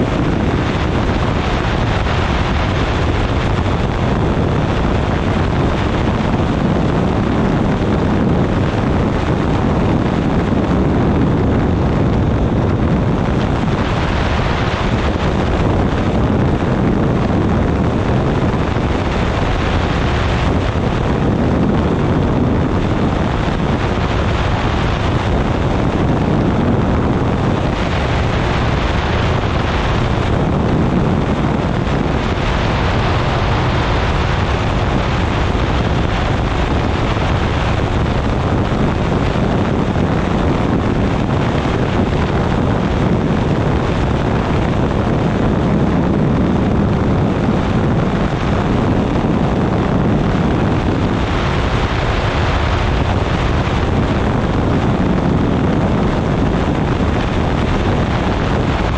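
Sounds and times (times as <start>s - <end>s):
engine and propeller droning: 0.0s - 58.9s
wind rushing over microphone: 0.0s - 58.9s.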